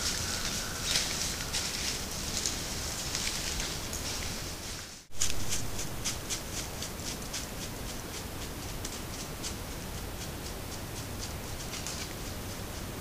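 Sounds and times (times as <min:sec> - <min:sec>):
light ticks in leaf litter: 0:00.0 - 0:13.0
steady outdoor hiss: 0:00.0 - 0:13.0.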